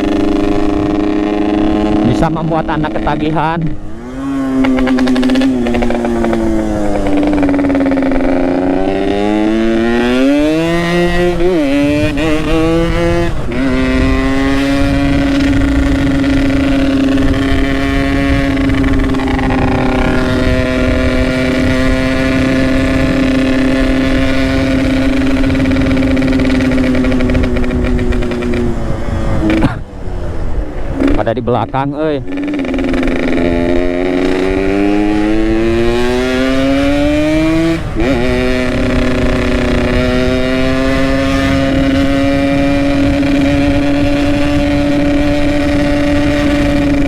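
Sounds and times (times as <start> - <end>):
two-stroke motorcycle engine revving: 0.0 - 29.9, 31.0 - 47.0.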